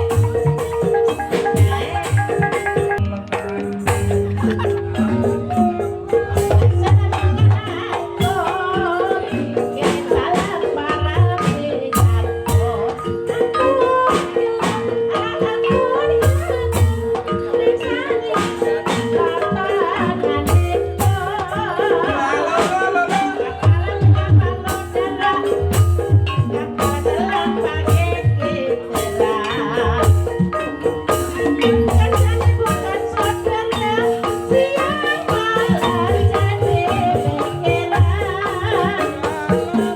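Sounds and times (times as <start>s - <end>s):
metallophones repeating pattern: 0.0s - 39.9s
wavering melody: 0.0s - 39.9s.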